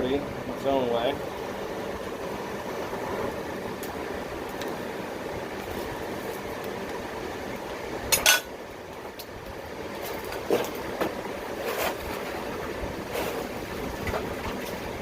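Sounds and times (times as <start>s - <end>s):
forge blower running: 0.0s - 15.0s.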